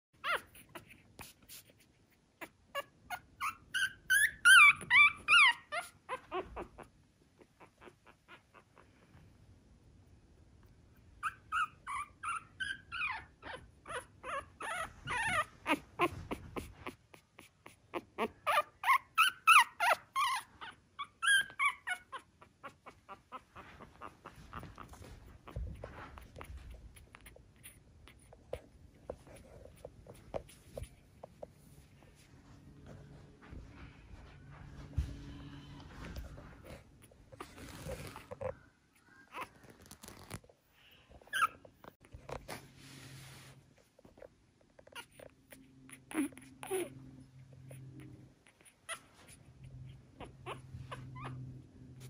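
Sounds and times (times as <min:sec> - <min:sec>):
puppy whimpering: 0:00.2 - 0:09.1, 0:11.2 - 0:31.4, 0:35.7 - 0:40.4, 0:41.1 - 0:42.5, 0:44.2 - 0:52.0.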